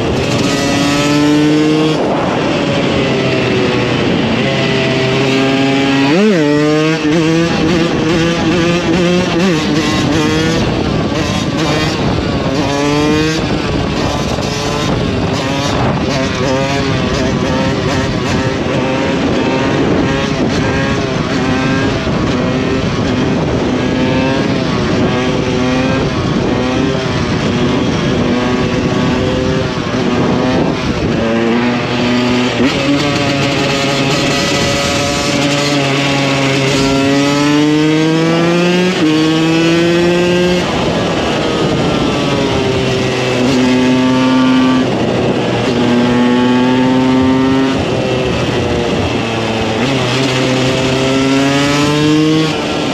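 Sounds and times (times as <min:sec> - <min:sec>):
two-stroke motorcycle engine revving: 0:00.0 - 0:52.9.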